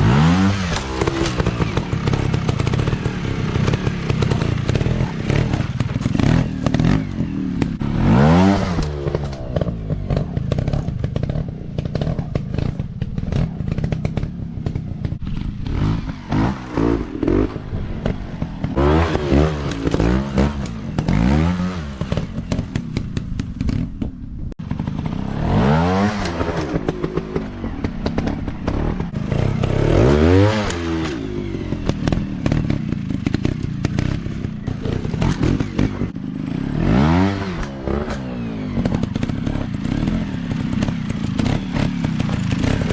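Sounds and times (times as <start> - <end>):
dirt bike engines revving: 0.0 - 23.8, 24.6 - 42.9.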